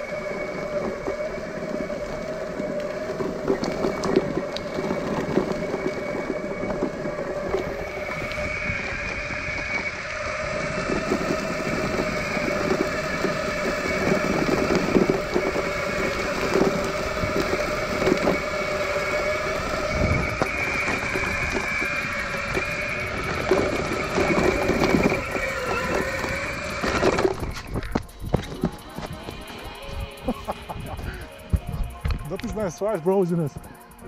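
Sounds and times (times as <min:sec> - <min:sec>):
electric motor whine: 0:00.0 - 0:34.0
tyres rumbling over gravel: 0:00.0 - 0:34.0.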